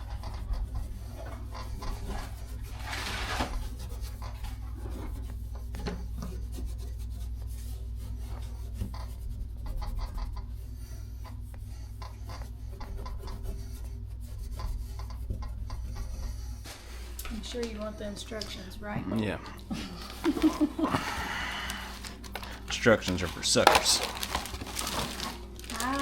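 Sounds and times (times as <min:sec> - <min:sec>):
hands rubbing and scraping parts: 0:00.0 - 0:18.8, 0:20.0 - 0:26.0
steady low hum: 0:00.0 - 0:26.0.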